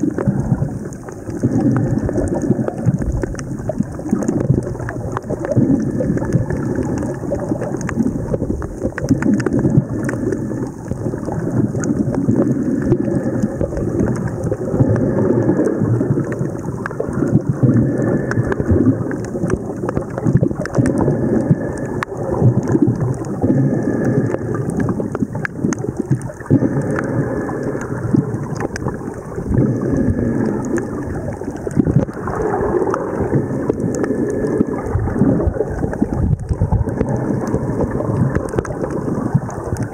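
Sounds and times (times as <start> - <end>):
muffled water sloshing: 0.0 - 39.9
small crackles: 0.0 - 39.9.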